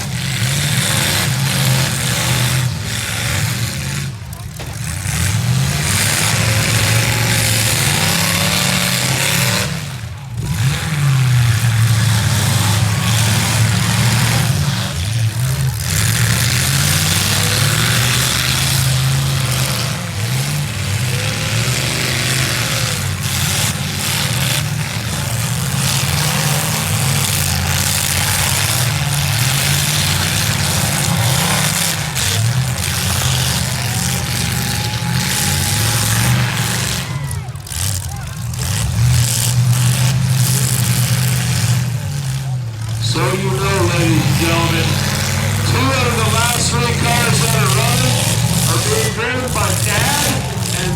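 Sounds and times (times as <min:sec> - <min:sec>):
car engines revving hard: 0:00.0 - 0:50.9.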